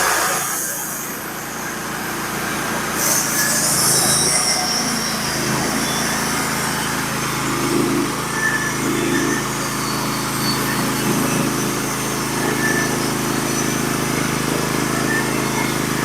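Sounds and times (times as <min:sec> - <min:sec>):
band sawmill cutting log: 0:00.0 - 0:16.0.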